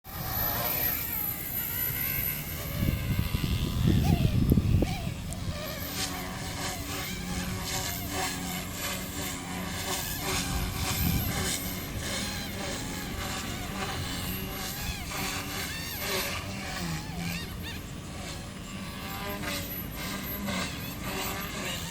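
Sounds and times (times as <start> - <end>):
machine humming: 0.1 - 21.9.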